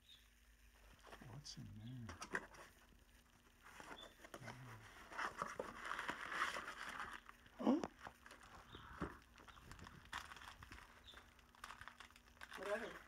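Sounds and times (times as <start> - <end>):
packaging rustling and crinkling: 2.2 - 13.0.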